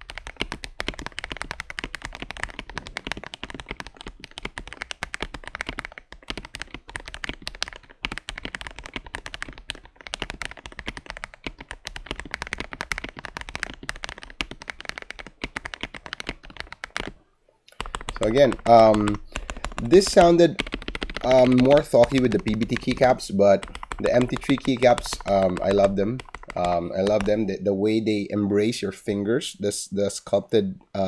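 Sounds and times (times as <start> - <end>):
mechanical keyboard typing: 0.0 - 29.2.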